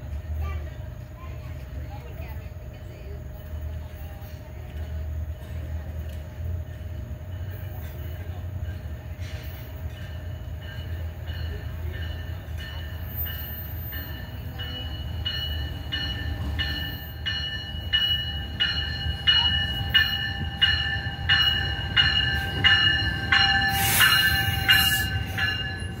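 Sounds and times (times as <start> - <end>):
low rumble of train: 0.0 - 26.0
rush of passing train cars: 0.0 - 26.0
train bell ringing: 0.1 - 26.0.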